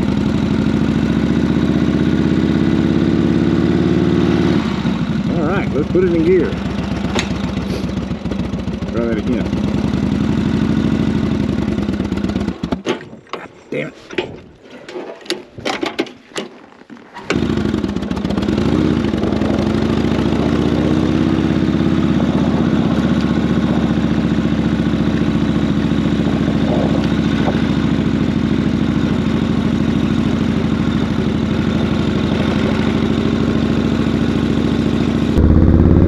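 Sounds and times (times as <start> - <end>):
motorcycle engine running: 0.0 - 12.7, 17.3 - 36.0.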